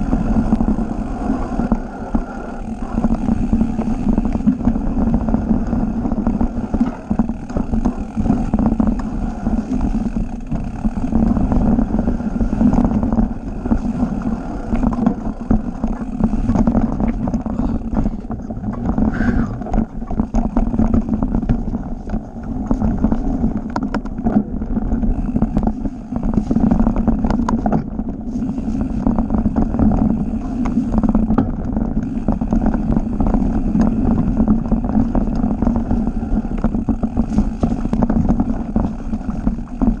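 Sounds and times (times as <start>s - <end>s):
bike rattling over roots: 0.0s - 40.0s
bike tyres rumbling on dirt: 0.0s - 40.0s
wind on microphone: 0.0s - 40.0s.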